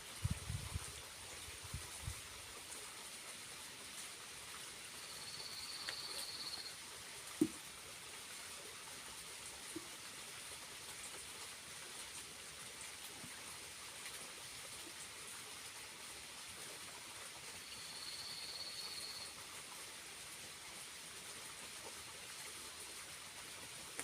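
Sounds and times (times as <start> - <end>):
small waterfall splashing: 0.0 - 24.0.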